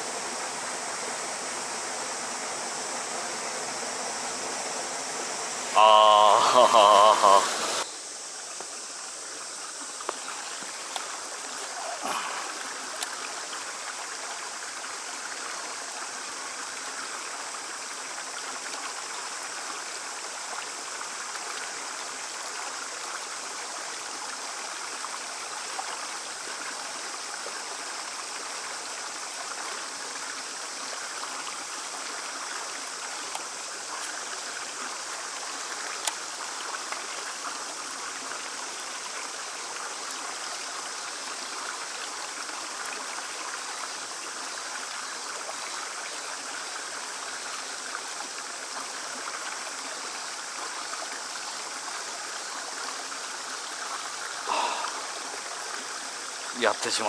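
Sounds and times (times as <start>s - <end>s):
water running over rocks: 0.0s - 57.0s.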